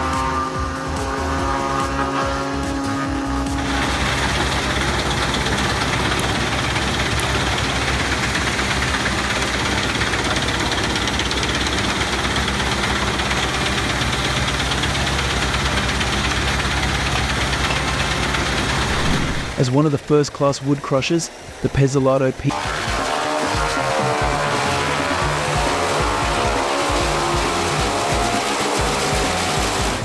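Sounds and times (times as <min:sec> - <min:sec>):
constant rushing noise: 0:00.0 - 0:30.0
wood chipper diesel engine running: 0:00.0 - 0:30.0.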